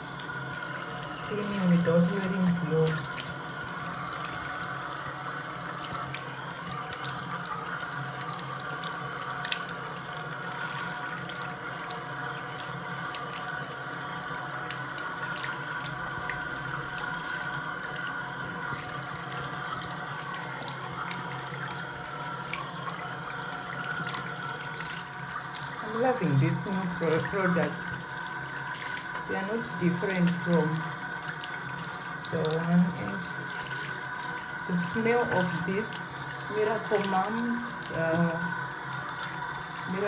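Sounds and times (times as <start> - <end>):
tap water running into sink: 0.0 - 40.0.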